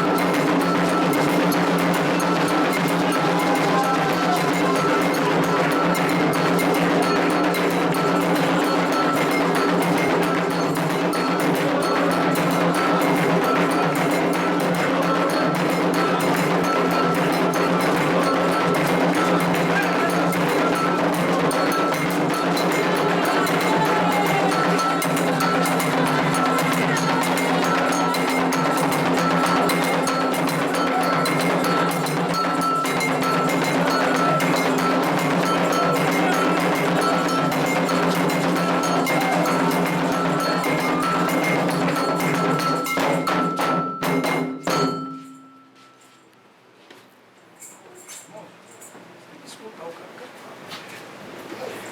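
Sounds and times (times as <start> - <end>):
hand drums: 0.0 - 45.9
ringing metallic tone: 0.0 - 46.3
struck iron bell: 0.0 - 46.3.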